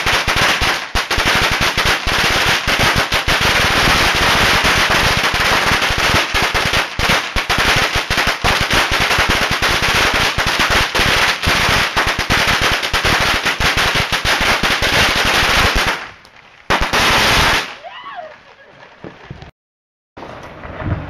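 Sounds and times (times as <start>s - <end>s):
firecrackers crackling: 0.0s - 19.5s.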